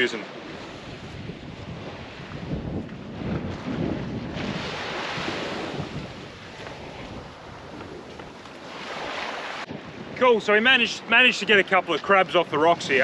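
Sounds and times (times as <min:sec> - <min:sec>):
small waves washing on sand: 0:00.0 - 0:13.0
wind buffeting microphone: 0:00.3 - 0:13.0.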